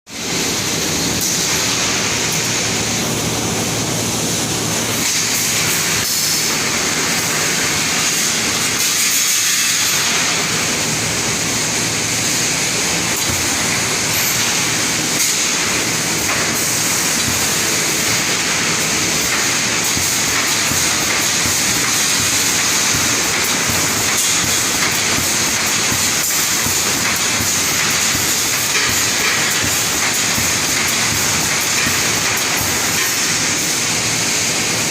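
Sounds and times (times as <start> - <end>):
welding machine running: 0.2 - 34.9.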